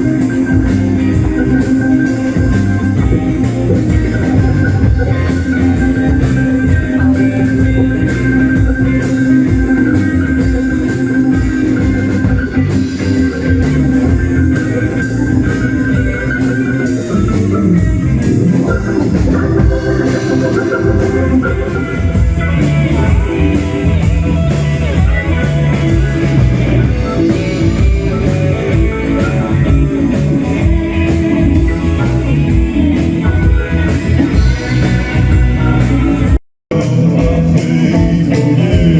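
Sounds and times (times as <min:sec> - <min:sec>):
blues guitar: 0:00.0 - 0:38.9
drum kit beat: 0:00.0 - 0:38.9.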